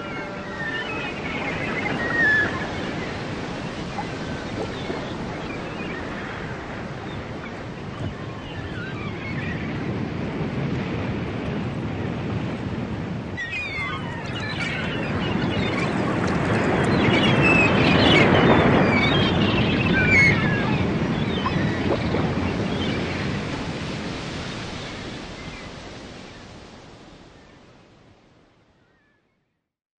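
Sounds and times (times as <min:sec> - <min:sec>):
waves breaking: 0:00.0 - 0:28.4.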